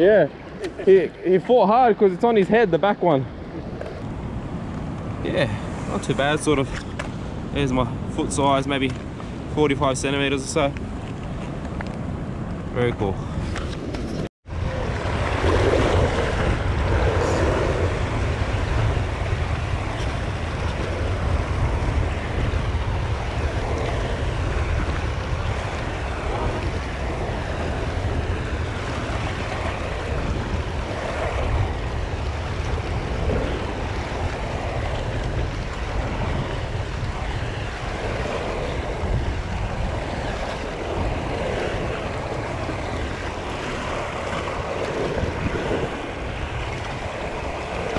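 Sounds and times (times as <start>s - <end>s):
ocean swell washing against rock: 0.0s - 47.9s
wind rumble on microphone: 0.0s - 47.9s.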